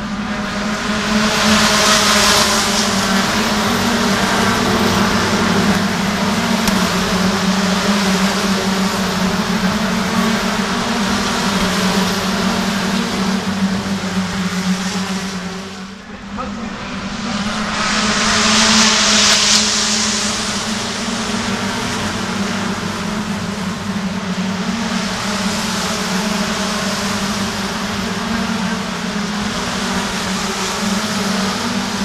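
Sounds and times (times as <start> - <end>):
race cars passing: 0.0 - 32.0.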